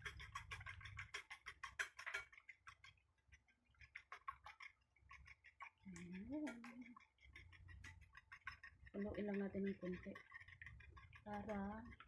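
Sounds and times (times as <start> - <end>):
utensil clicking on ceramic plate: 0.0 - 12.0.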